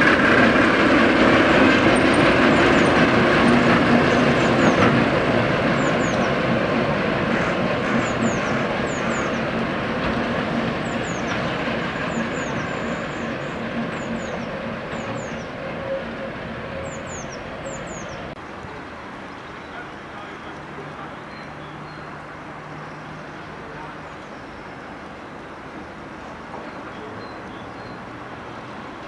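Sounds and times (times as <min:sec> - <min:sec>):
diesel locomotive engine running: 0:00.0 - 0:29.0.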